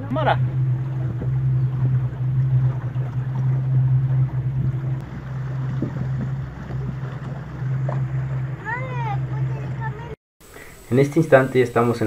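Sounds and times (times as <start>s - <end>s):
motorboat engine droning: 0.0s - 12.0s
water noise: 0.0s - 12.0s
wind: 0.0s - 12.0s.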